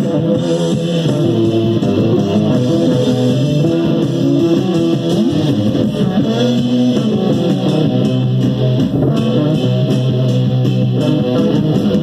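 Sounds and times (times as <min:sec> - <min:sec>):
guitar band song on loudspeaker: 0:00.0 - 0:12.0.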